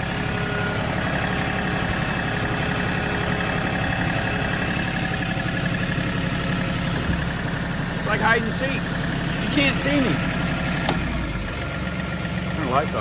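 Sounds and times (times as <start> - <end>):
diesel tractor engine humming: 0.0 - 13.0.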